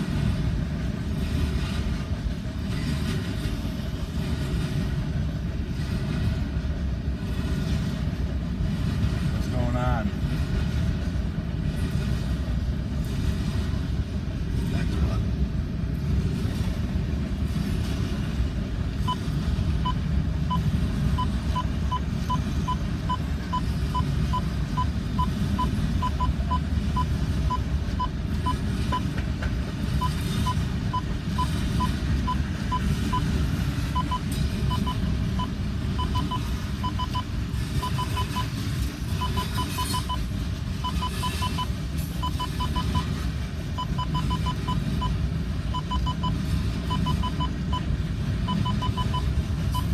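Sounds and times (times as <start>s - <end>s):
freight train rumbling past: 0.0s - 49.9s.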